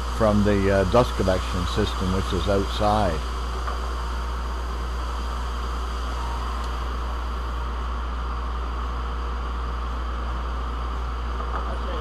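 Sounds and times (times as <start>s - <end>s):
rush of air through filters: 0.0s - 9.8s
low hum of dust collector: 0.0s - 12.0s.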